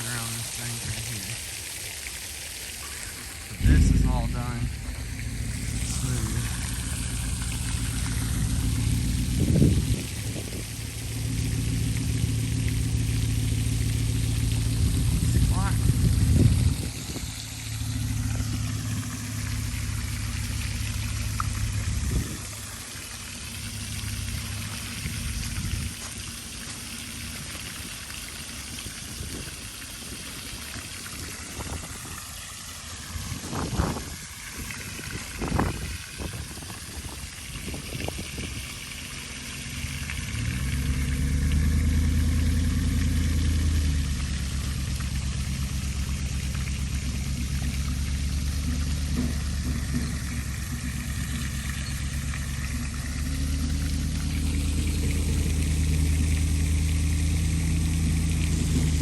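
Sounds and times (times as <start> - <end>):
vehicle engine running: 2.8 - 59.0.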